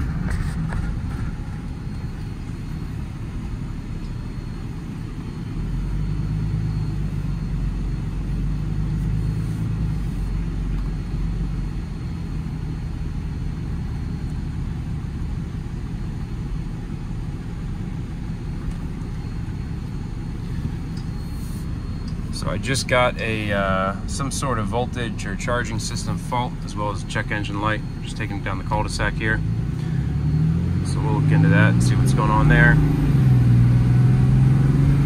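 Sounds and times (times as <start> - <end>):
diesel engine running: 0.0 - 35.0
road noise: 0.0 - 35.0.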